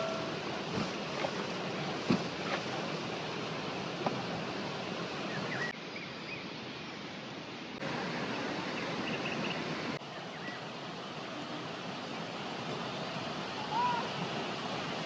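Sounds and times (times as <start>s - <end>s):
river water rushing: 0.0s - 5.8s, 6.6s - 15.0s.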